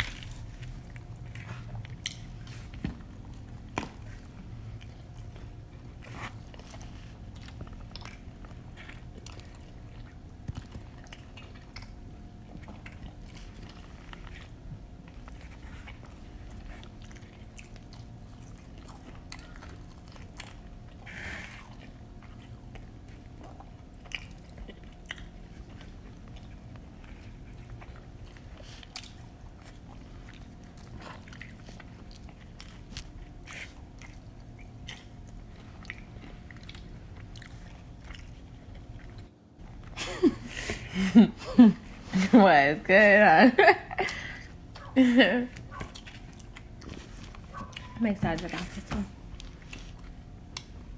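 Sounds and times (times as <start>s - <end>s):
pizza chewing crunches: 0.0s - 40.0s, 44.0s - 50.9s
faint steady hum: 0.0s - 50.9s.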